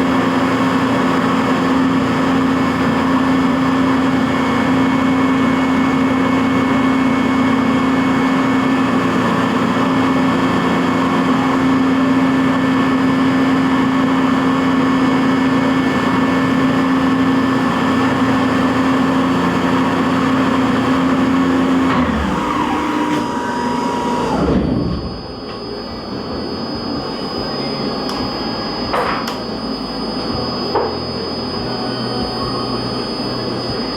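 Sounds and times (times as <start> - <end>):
milling machine spindle running: 0.0 - 33.9.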